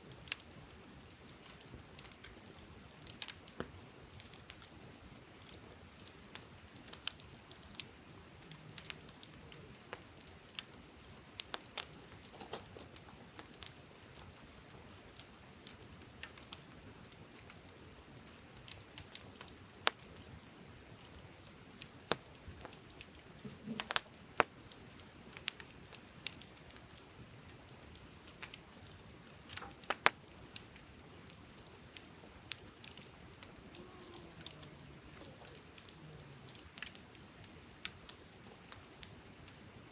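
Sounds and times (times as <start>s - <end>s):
campfire crackling and popping: 0.0s - 39.9s
faint steady hiss: 0.0s - 39.9s.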